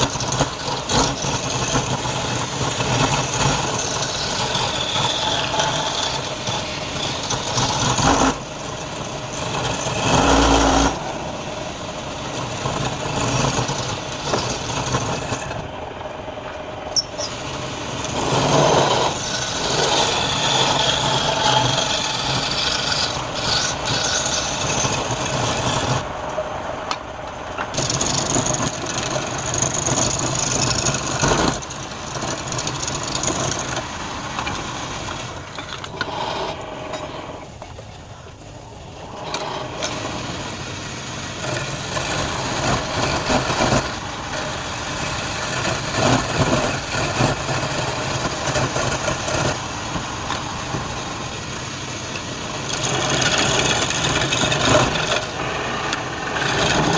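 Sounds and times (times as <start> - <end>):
turning tool cutting wood: 0.0 - 15.8, 16.9 - 26.4, 27.7 - 37.5, 39.1 - 56.9
lathe motor hum: 0.0 - 37.6, 38.8 - 56.9.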